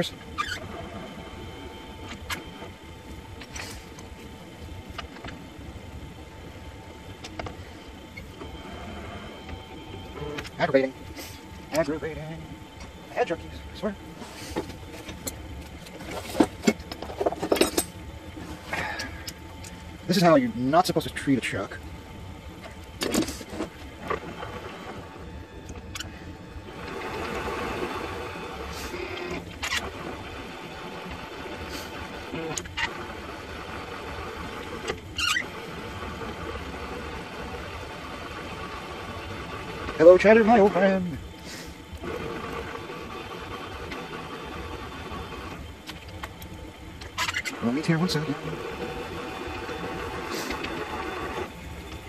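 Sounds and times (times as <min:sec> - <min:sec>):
lathe motor hum and whine: 0:00.0 - 0:52.0.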